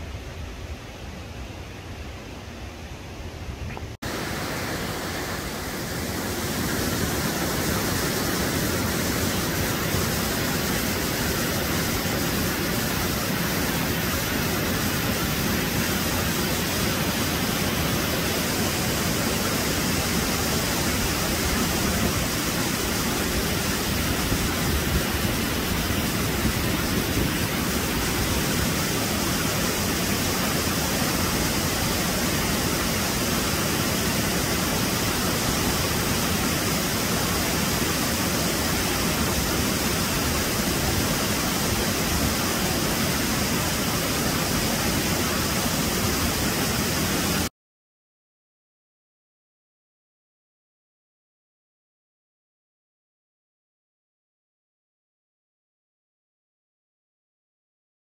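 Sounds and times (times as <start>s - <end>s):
running water rushing: 0.0s - 47.5s.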